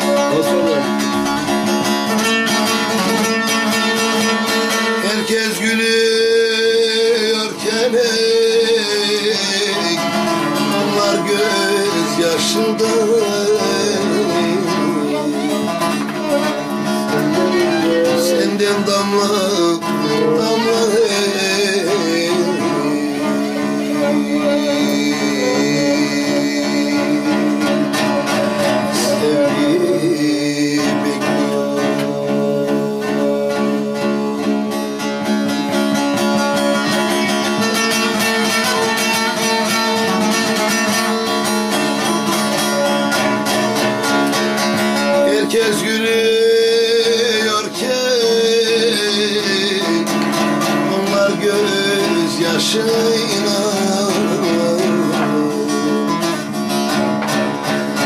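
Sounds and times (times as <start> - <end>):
long-necked lute strummed rapidly: 0.0 - 58.0
man singing: 0.0 - 58.0.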